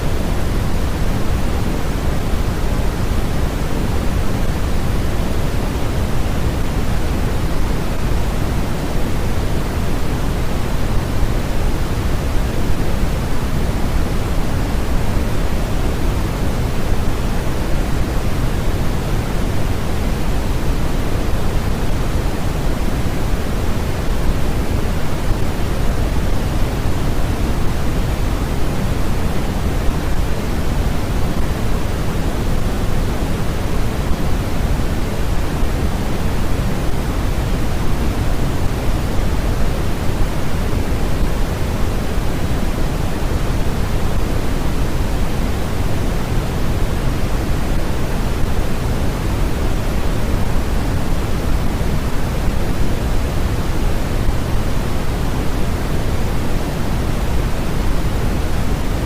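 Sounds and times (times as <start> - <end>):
deep steady hiss noise: 0.0 - 59.0.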